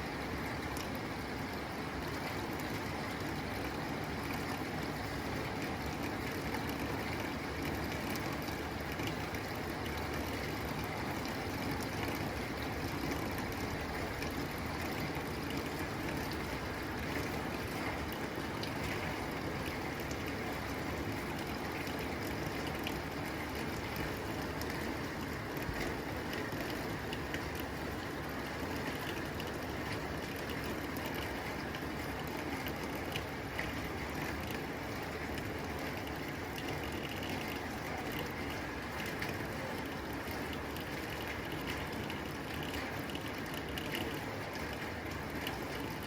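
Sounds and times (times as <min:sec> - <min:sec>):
rain on a tin roof: 0:00.0 - 0:46.0.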